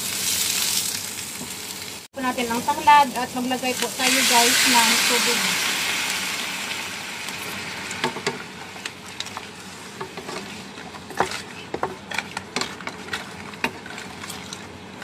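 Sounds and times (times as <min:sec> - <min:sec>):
oil sizzling: 0:00.0 - 0:15.0.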